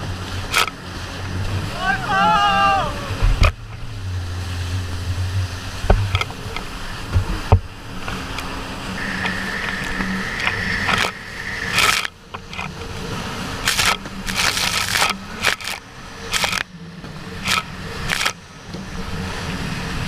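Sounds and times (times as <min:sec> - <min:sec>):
jet ski engine droning: 0:00.0 - 0:20.0
water spray and wind noise: 0:00.0 - 0:20.0.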